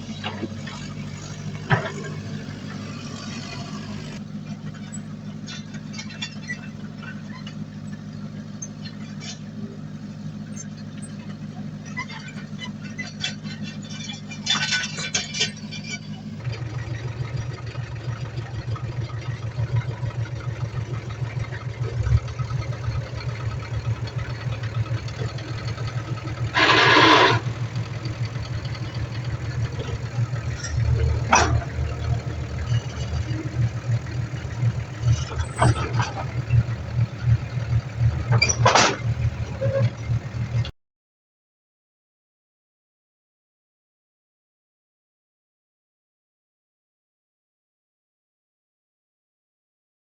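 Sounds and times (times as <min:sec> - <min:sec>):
heavy diesel engine throbbing: 0:00.0 - 0:40.7.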